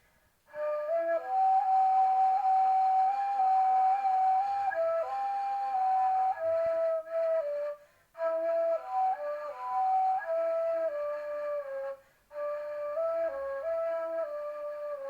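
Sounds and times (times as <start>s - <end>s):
solo flute melody: 0.5s - 15.0s.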